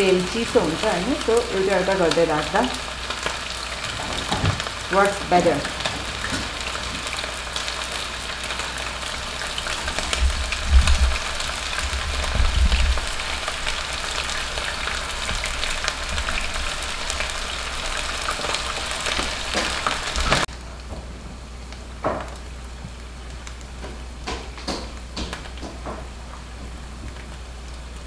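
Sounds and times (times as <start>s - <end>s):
chicken deep-frying in oil: 0.0s - 28.0s.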